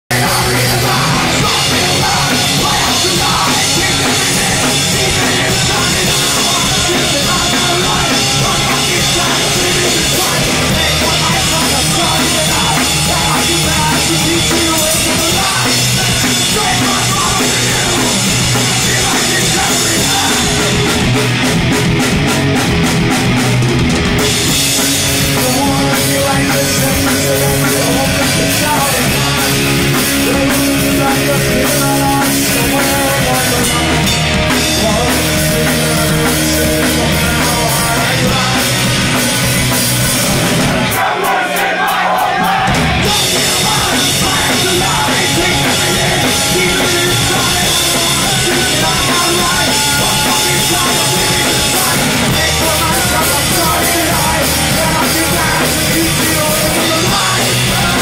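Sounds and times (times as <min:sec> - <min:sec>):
person singing lead vocal: 0:00.0 - 0:21.8, 0:24.2 - 0:58.0
bass guitar: 0:00.0 - 0:58.0
distorted electric guitar: 0:00.0 - 0:58.0
drum kit with crashing cymbals: 0:00.1 - 0:58.0.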